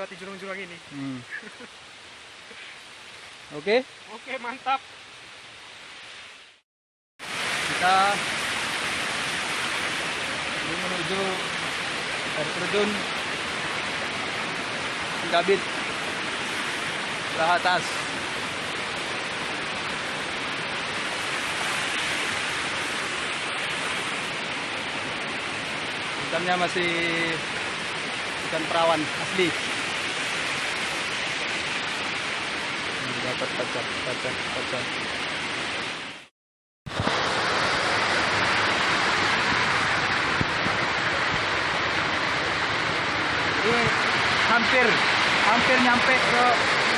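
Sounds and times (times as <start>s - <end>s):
rushing river water: 0.0s - 6.6s, 7.2s - 36.3s, 36.9s - 46.9s.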